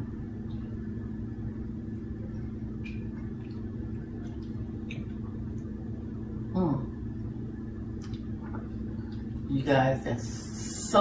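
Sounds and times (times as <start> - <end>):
low hum with constant tones: 0.0 - 11.0.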